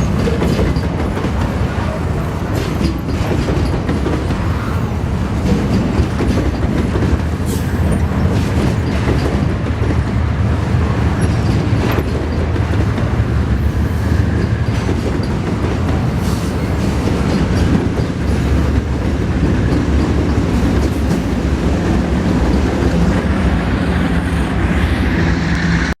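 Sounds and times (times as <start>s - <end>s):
wheels clicking over rail joints: 0.0s - 23.3s
freight train rolling past: 0.0s - 26.0s.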